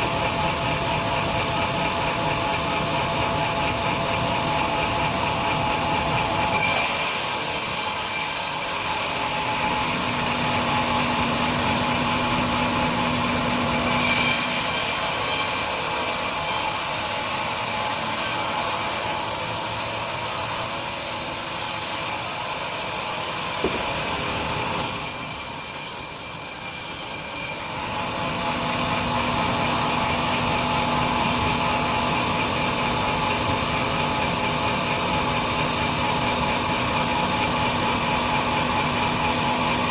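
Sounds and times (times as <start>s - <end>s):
band saw machine hum: 0.0s - 39.9s.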